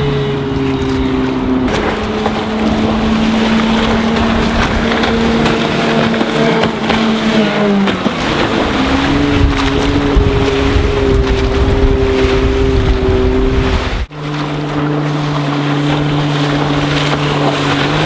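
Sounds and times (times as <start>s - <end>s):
speedboat engine running: 0.0s - 18.0s
wind rumble on microphone: 0.0s - 18.0s.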